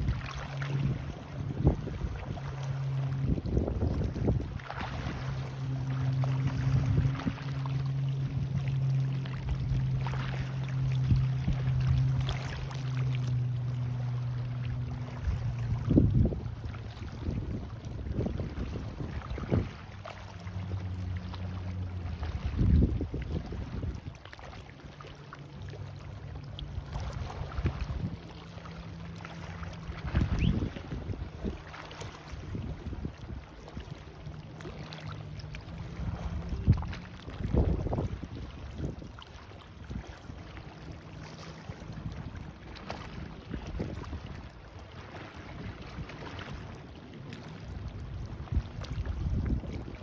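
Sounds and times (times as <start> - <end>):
wind buffeting microphone: 0.0 - 24.3, 26.1 - 50.0
distant boat engine droning: 0.0 - 50.0
small waves washing in: 0.0 - 50.0.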